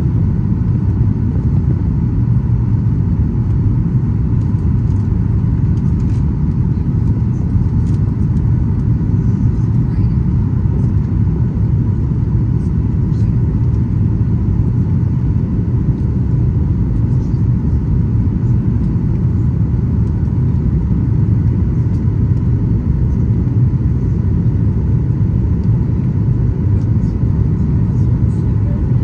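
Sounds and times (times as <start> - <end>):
jet engine low rumble: 0.0 - 29.0.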